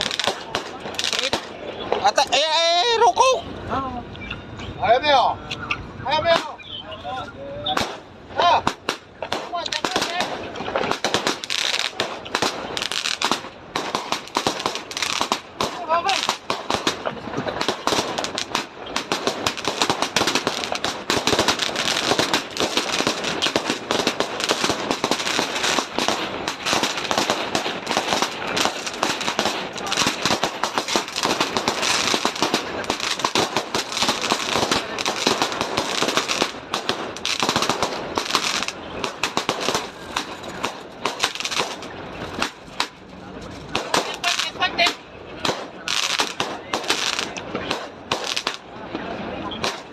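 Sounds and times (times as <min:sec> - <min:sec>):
firecrackers going off: 0:00.0 - 0:49.9.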